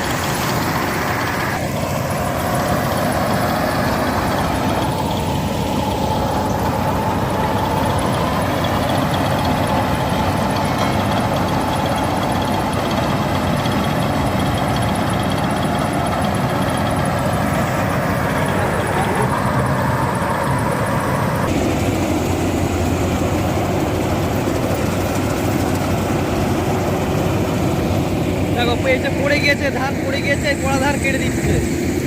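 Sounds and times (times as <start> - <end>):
combine harvester mechanical drone: 0.0 - 32.0.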